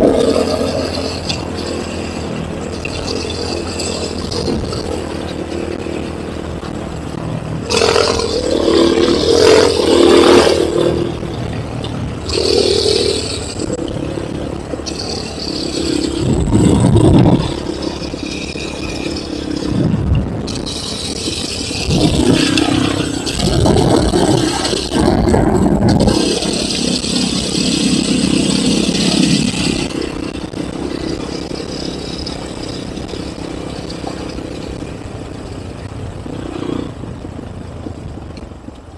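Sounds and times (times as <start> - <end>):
rattling: 0.0 - 35.7
motorcycle engine revving: 0.0 - 38.9.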